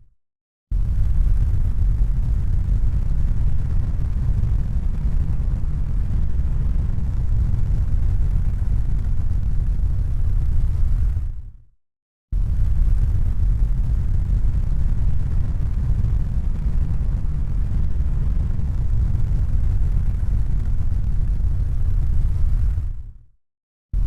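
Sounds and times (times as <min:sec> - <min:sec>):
deep rumbling noise: 0:00.8 - 0:11.5, 0:12.4 - 0:23.2.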